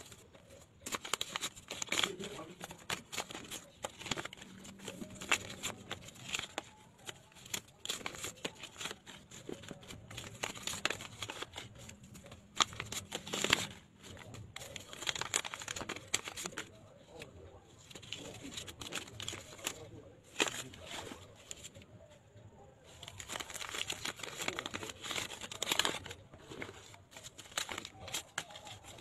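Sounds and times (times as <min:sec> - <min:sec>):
paper crinkling and rustling: 0:00.0 - 0:29.0.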